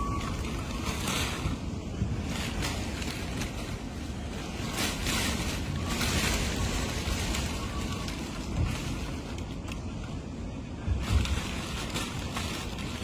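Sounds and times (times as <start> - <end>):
wind gusting on microphone: 0.0 - 13.0.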